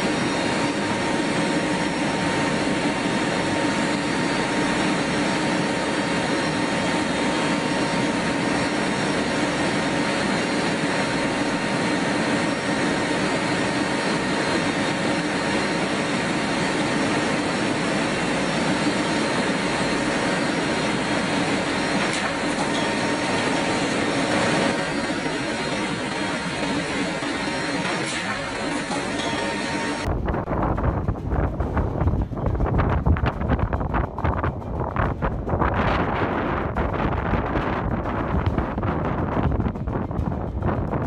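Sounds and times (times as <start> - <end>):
steady engine roar: 0.0 - 41.0.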